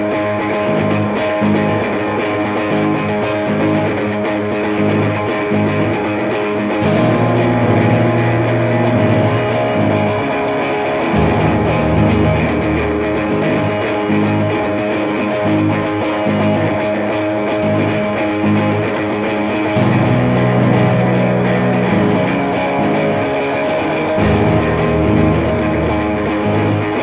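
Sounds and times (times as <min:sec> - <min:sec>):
rock music with guitars and bass: 0:00.0 - 0:27.0.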